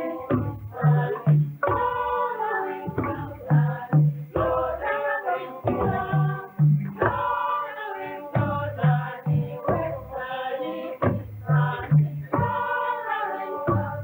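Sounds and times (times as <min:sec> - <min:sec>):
low repeating beats: 0:00.0 - 0:10.3, 0:11.0 - 0:14.0
choir singing: 0:00.0 - 0:14.0.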